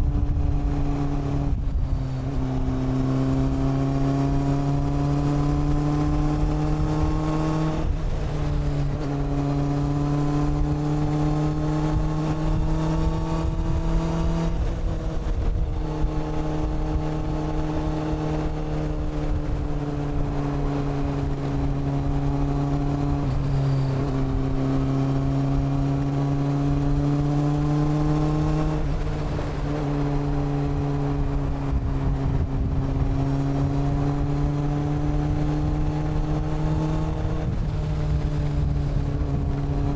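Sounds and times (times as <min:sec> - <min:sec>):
motorcycle engine and exhaust running: 0:00.0 - 0:39.9.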